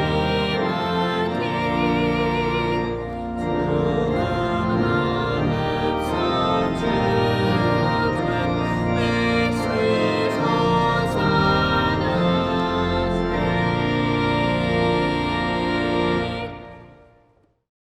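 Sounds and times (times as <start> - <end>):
organ playing sustained chords: 0.0 - 17.4.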